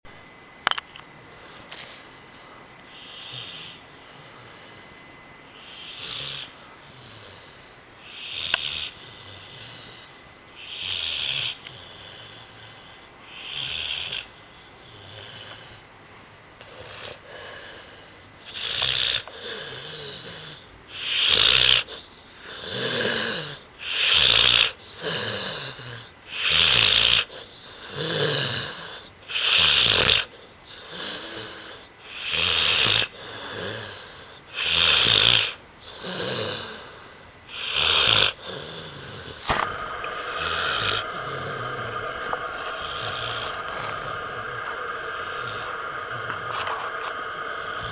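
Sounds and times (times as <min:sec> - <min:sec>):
dog snoring loudly: 0:03.0 - 0:04.9, 0:05.6 - 0:15.8, 0:16.6 - 0:47.9.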